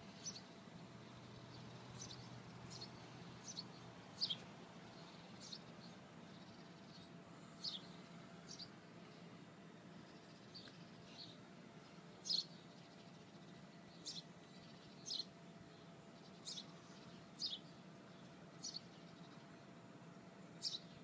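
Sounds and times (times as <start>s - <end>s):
low background hum: 0.0s - 21.0s
small bird chirping: 0.2s - 0.5s, 1.2s - 8.7s, 10.1s - 19.4s, 20.6s - 21.0s.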